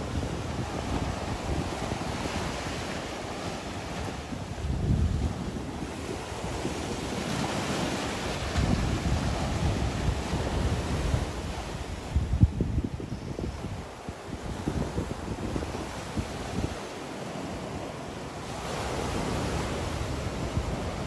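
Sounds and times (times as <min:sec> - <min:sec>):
sea surf: 0:00.0 - 0:21.0
wind buffeting microphone: 0:00.0 - 0:21.0.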